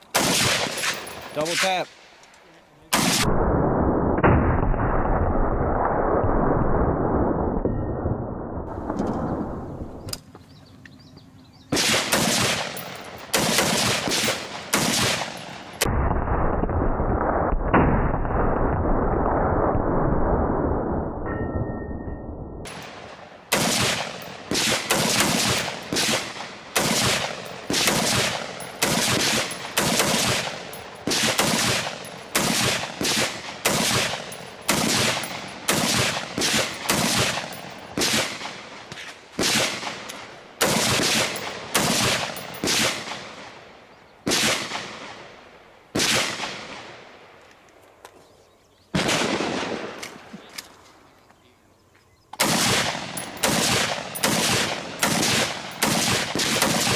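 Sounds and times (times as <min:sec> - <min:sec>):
gunshots with ringing tail: 0:00.1 - 0:02.0, 0:02.9 - 0:10.0, 0:11.7 - 0:47.4, 0:48.9 - 0:50.4, 0:52.4 - 0:56.9.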